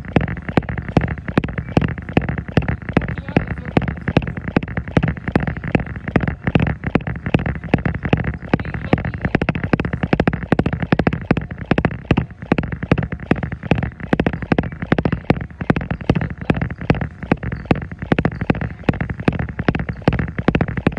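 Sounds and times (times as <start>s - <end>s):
footsteps pounding a treadmill: 0.0s - 20.9s
treadmill belt humming: 0.0s - 20.9s.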